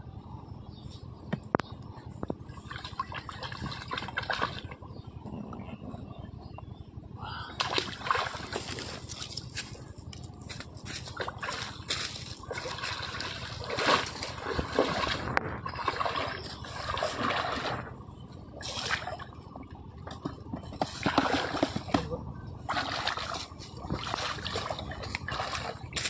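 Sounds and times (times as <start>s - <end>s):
shallow water sloshing: 2.0s - 6.8s, 7.4s - 26.0s.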